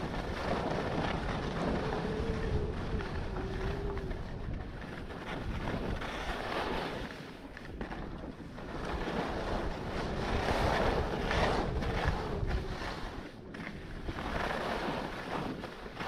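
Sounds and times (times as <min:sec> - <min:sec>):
skis scraping on snow: 0:00.0 - 0:16.0
wind on microphone: 0:00.0 - 0:16.0.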